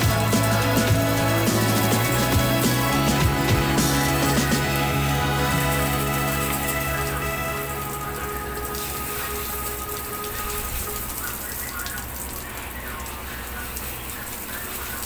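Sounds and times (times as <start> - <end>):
background music: 0.0 - 14.2
water spraying from hose: 0.0 - 15.0.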